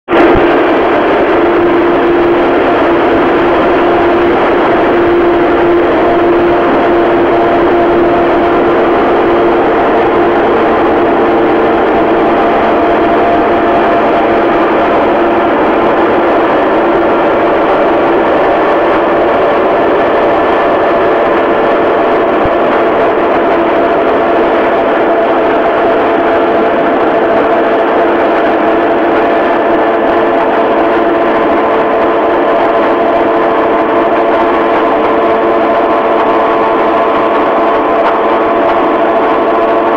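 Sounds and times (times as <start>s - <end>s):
combine harvester drone: 0.1s - 39.9s
machine whining tones: 0.1s - 39.9s.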